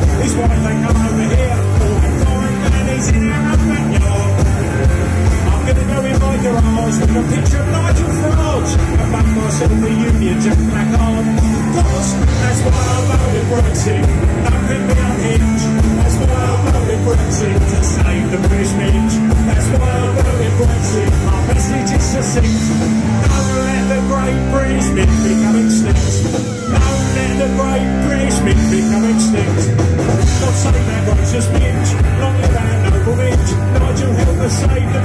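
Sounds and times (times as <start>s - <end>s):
bass guitar: 0.0s - 35.0s
drum kit: 0.0s - 35.0s
electric guitars: 0.0s - 35.0s.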